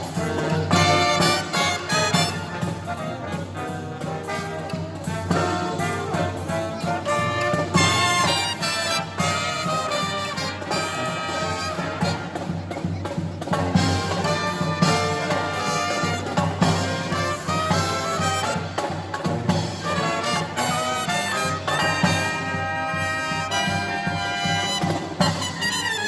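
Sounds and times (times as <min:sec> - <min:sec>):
brass marching band playing: 0:00.0 - 0:26.0.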